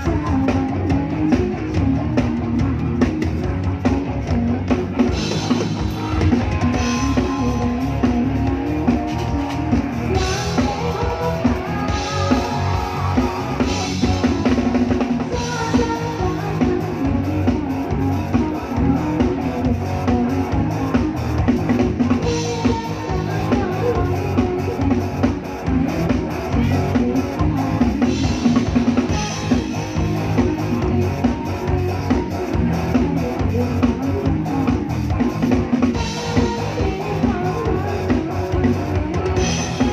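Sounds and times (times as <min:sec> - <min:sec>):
bass drum and snare beat: 0:00.0 - 0:39.9
live band music: 0:00.0 - 0:39.9.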